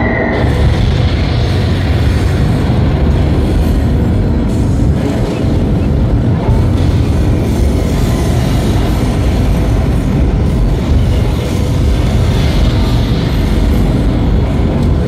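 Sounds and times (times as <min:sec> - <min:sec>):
deep rumble over loudspeakers: 0:00.0 - 0:15.0.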